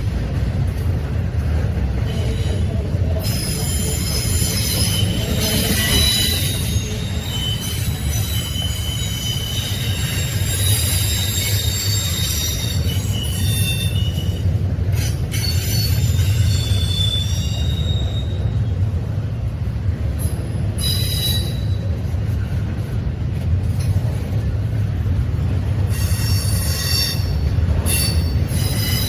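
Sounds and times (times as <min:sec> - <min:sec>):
train rumbling past: 0:00.0 - 0:29.0
train wheels squealing on rails: 0:00.0 - 0:29.0.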